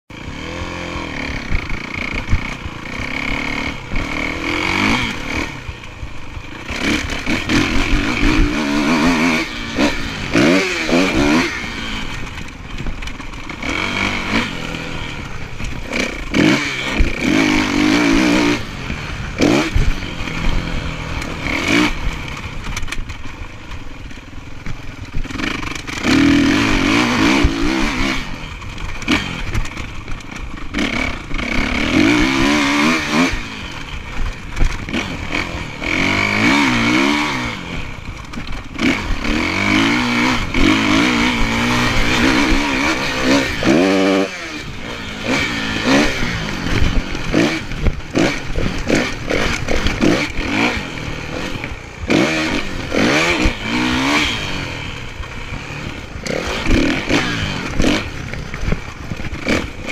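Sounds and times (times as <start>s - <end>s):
motocross bike engine revving: 0.1s - 59.9s.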